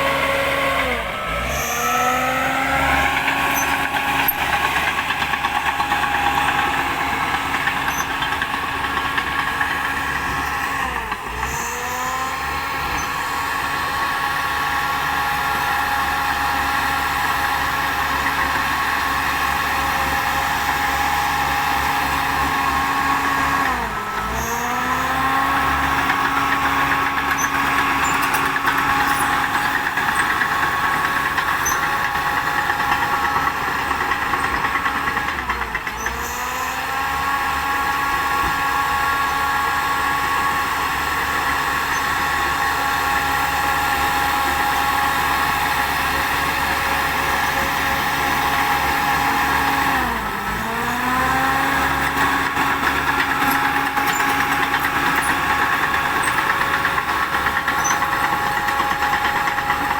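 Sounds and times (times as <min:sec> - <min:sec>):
bulldozer running with whining drive: 0:00.0 - 0:59.9.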